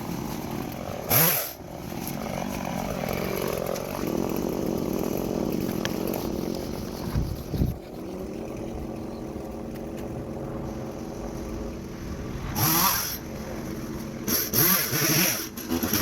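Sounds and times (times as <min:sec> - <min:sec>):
chainsaw engine idling and revving: 0:00.0 - 0:16.0.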